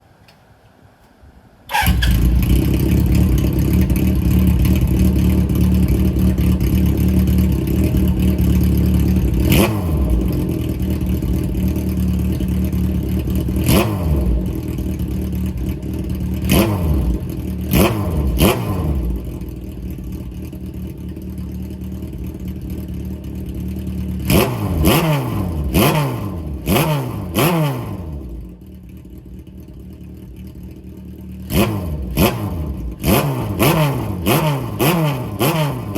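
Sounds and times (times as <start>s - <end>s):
motorcycle engine revving: 1.7s - 35.9s.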